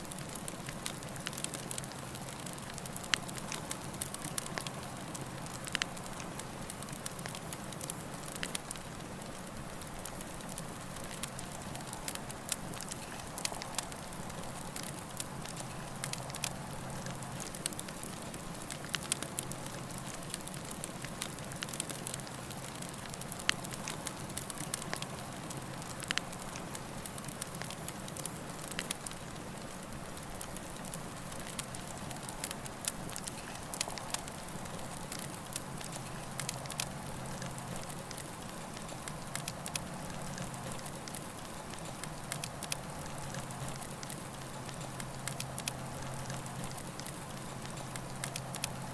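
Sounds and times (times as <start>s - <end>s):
campfire crackling and popping: 0.0s - 48.9s
fire hissing and rumbling: 0.0s - 48.9s.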